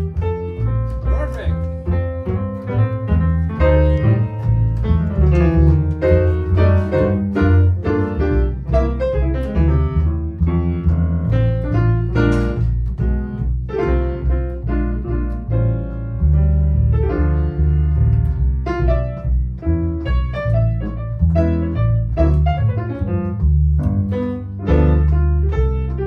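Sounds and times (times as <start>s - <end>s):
jazz piano: 0.0s - 26.0s
plucked double bass: 0.0s - 26.0s.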